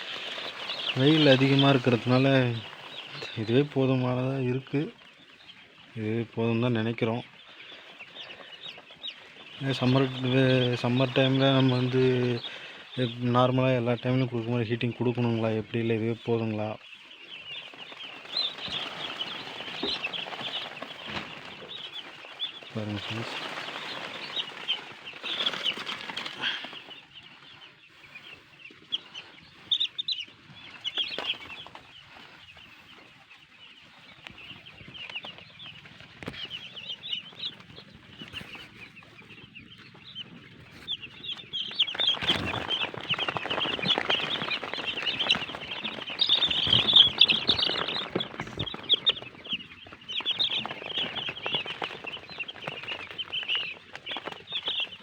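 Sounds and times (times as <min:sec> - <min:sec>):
rustling: 0:00.0 - 0:14.5, 0:15.2 - 0:55.0
chicks peeping: 0:00.0 - 0:55.0.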